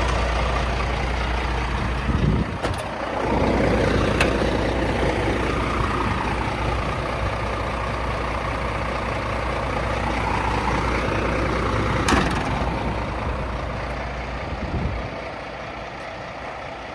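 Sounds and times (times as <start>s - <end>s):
diesel truck engine idling: 0.0s - 16.9s.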